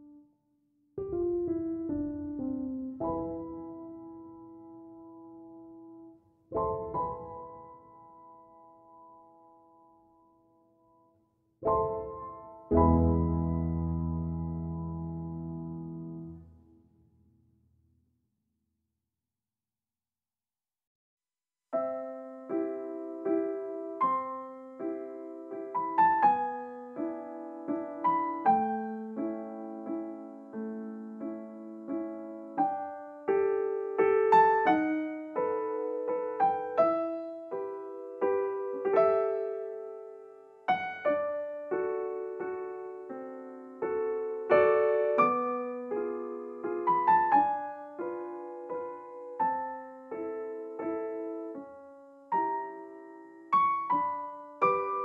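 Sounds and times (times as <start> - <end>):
slow gentle piano music: 0.0 - 17.1, 21.7 - 55.0.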